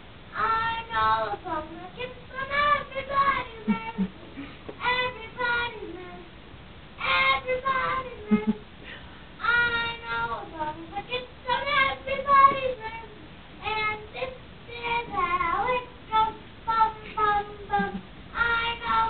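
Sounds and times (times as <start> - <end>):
girl singing: 0.3 - 6.4, 7.0 - 8.6, 9.4 - 19.0.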